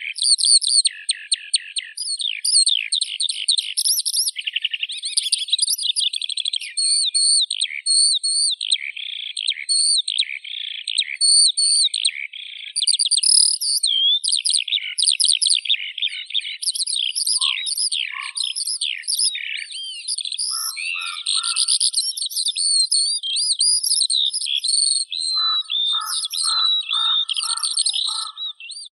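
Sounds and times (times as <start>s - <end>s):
skylark singing: 0.0s - 29.0s.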